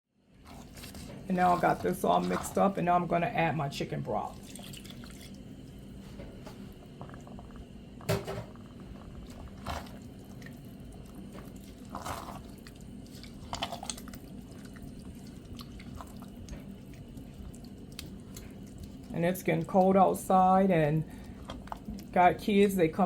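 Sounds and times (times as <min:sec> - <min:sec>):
steady low hum: 0:00.2 - 0:23.0.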